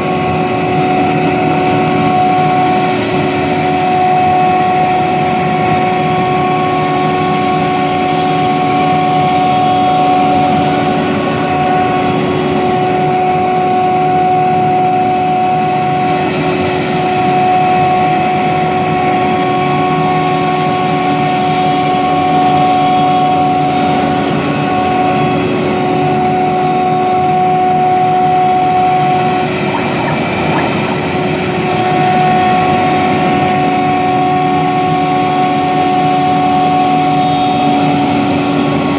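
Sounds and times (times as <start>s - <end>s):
router cutting wood: 0.0s - 38.9s
router spindle whine: 0.0s - 38.9s.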